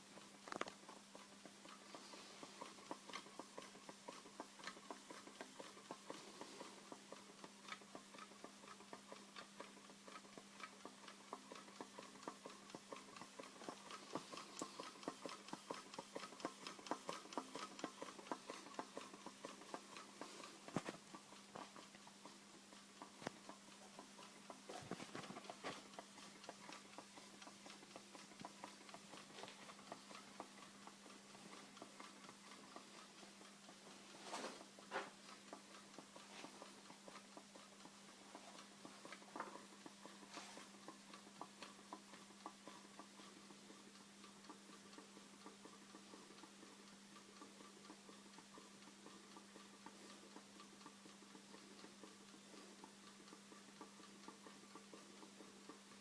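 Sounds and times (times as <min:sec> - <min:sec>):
small engine ticking and clicking: 0:00.0 - 0:56.0.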